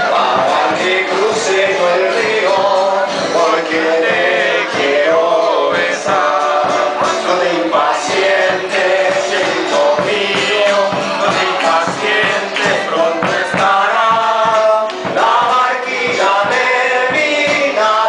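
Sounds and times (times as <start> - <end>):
group singing waltz with instruments: 0.0 - 18.0.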